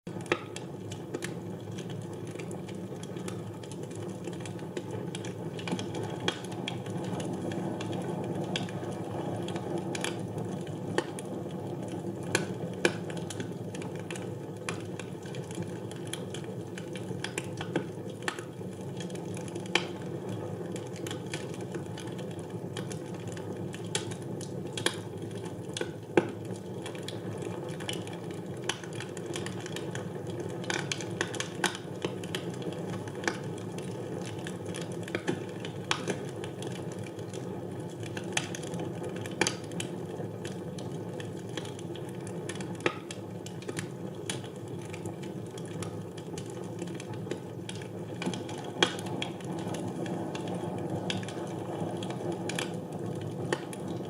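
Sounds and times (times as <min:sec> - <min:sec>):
fire crackling and popping: 0:00.1 - 0:54.0
wood fire burning: 0:00.1 - 0:54.0.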